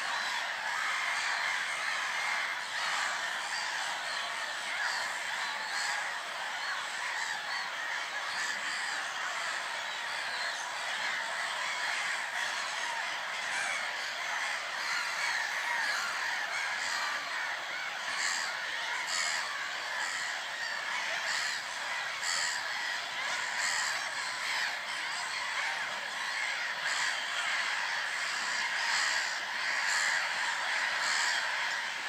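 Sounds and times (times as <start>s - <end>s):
waterbirds calling: 0.0s - 32.0s.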